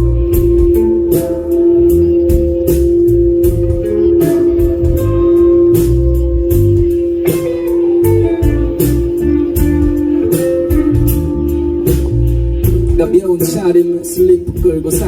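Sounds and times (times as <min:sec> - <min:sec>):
drum hits: 0:00.0 - 0:15.0
guitar: 0:00.0 - 0:15.0
live band playing: 0:00.0 - 0:15.0.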